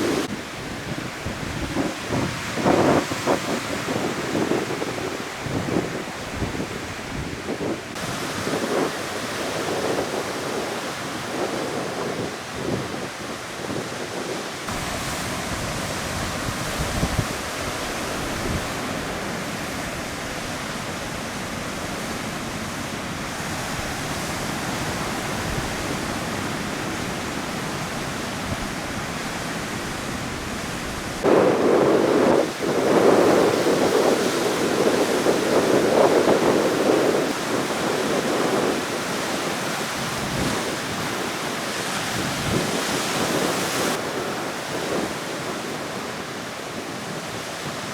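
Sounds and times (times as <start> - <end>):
strong wind rushing: 0.0 - 47.4
heavy surf: 0.0 - 47.9.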